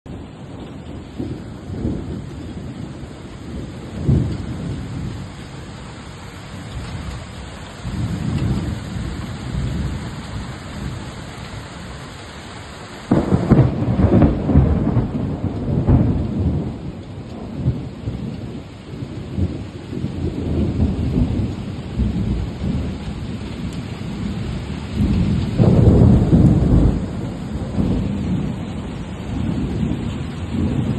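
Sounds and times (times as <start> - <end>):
rain falling in forest: 0.0 - 30.9.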